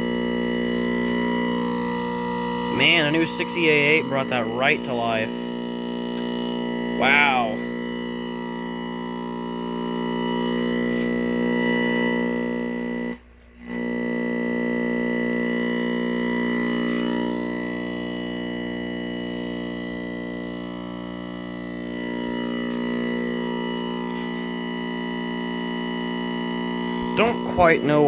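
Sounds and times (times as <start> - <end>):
steady buzz: 0.0 - 28.0.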